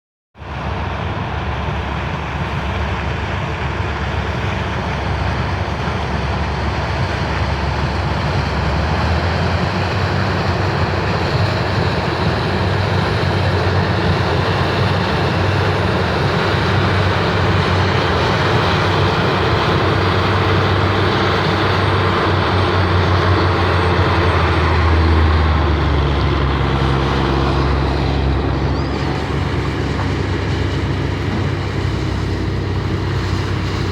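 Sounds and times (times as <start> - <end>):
combine harvester engine drone: 0.4 - 33.9
rushing machinery noise: 0.4 - 33.9.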